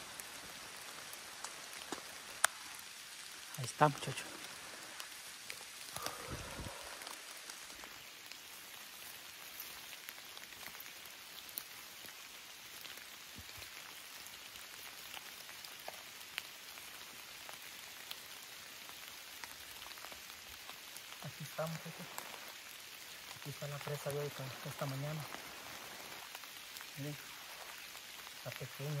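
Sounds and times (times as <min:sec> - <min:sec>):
light rain on leaves: 0:00.0 - 0:29.0.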